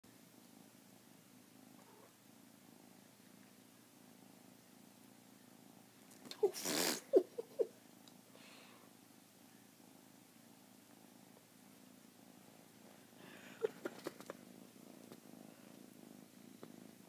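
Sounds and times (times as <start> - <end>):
kitten purring faintly: 0.1 - 17.0.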